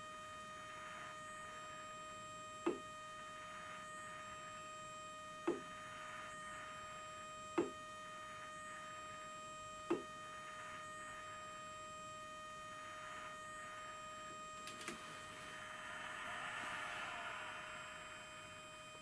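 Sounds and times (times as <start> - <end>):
electrical whine: 0.0 - 19.0.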